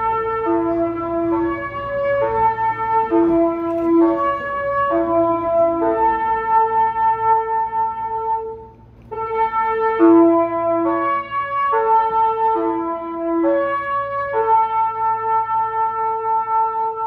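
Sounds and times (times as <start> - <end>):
train musical horn melody: 0.0 - 17.0.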